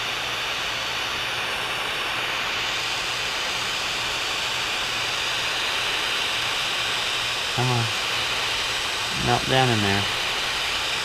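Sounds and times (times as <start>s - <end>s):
propane torch hissing roar: 0.0s - 11.0s.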